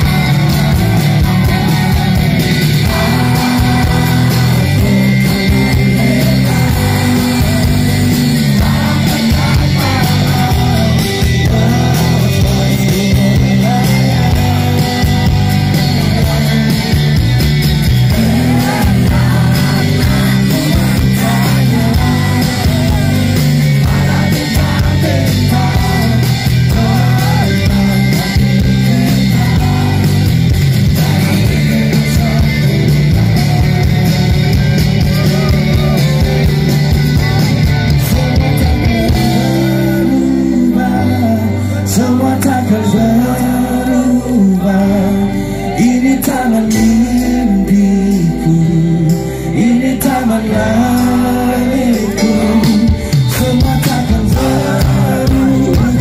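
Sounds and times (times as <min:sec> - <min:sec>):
live pop-rock band: 0:00.0 - 0:56.0
man singing: 0:00.0 - 0:56.0.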